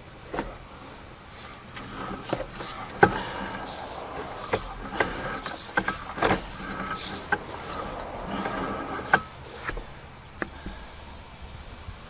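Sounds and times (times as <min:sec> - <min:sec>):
faint mechanical hiss: 0:00.0 - 0:12.0.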